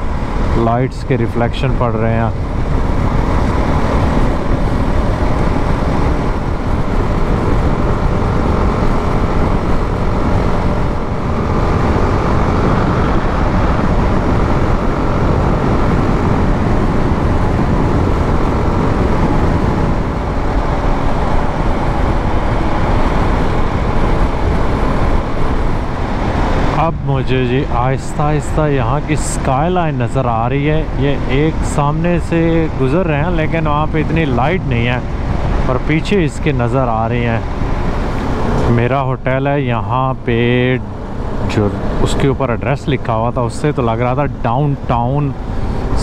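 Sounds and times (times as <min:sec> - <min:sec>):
wind and road noise: 0:00.0 - 0:46.0.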